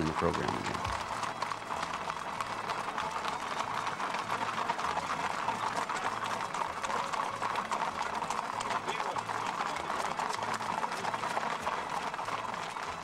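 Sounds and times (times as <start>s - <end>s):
hooves clattering on pavement: 0.0s - 13.0s.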